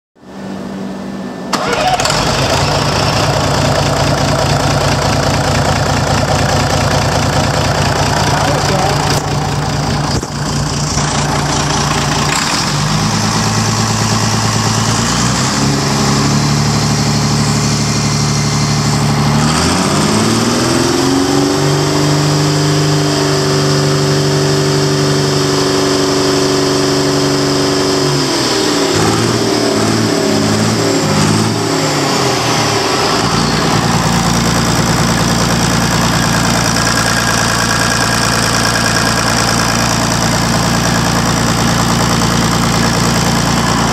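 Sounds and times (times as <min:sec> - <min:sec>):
diesel engine idling and revving: 0:00.2 - 0:43.9.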